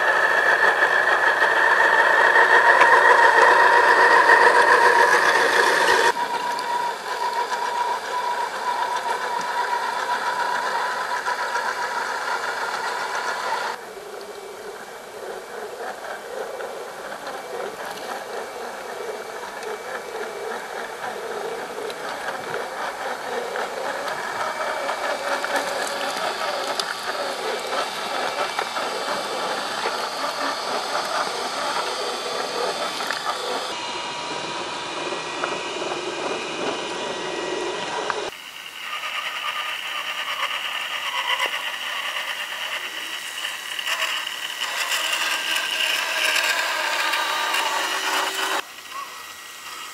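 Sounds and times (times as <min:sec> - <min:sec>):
small electric motor whine: 0:00.0 - 0:49.9.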